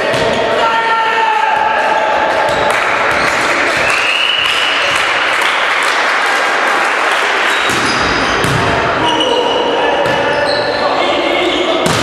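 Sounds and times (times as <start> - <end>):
noisy din in sports hall: 0.0 - 12.0.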